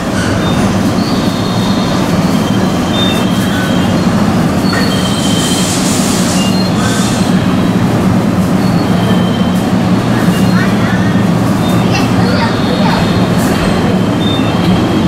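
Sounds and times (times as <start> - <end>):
high wheel squeals: 0.0 - 7.7, 8.5 - 15.0
train rumble: 0.0 - 15.0.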